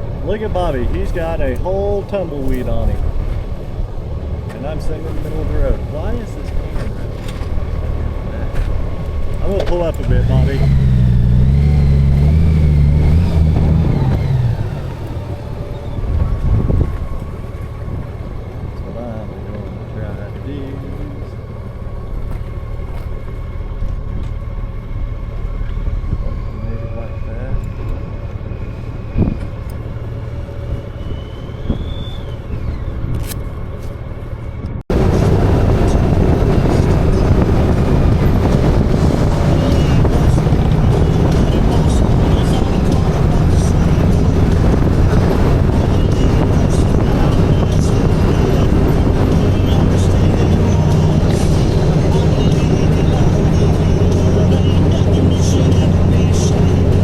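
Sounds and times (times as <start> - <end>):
motorcycle engine rumble: 0.0 - 57.0
road noise: 0.0 - 57.0
wind noise: 0.0 - 57.0.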